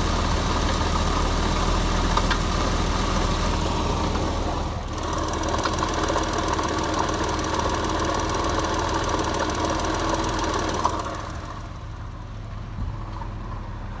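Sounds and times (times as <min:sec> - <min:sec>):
car engine rattling: 0:00.0 - 0:13.7.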